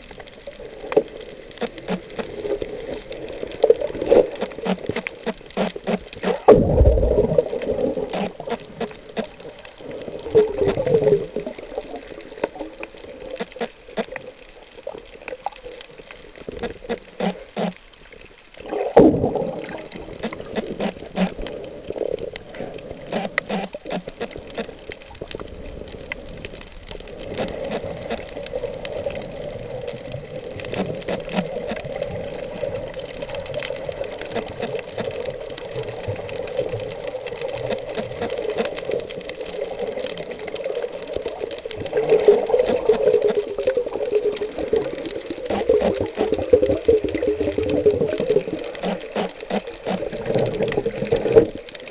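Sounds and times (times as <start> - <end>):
muffled underwater noise: 0.0 - 18.0, 18.6 - 51.9
crackling clicks: 0.0 - 51.9.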